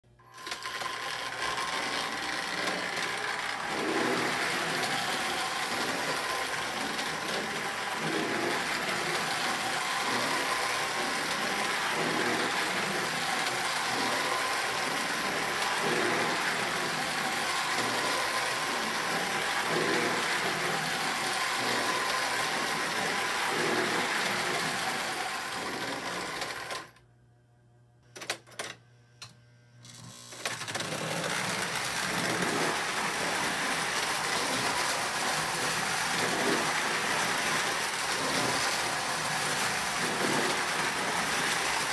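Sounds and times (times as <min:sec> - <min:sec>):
toy train motor whir: 0:00.0 - 0:27.0, 0:29.8 - 0:41.9.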